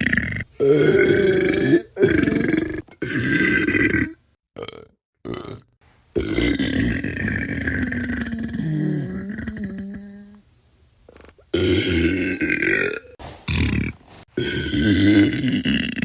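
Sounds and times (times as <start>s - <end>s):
person burping: 0.0s - 10.4s, 11.1s - 16.0s.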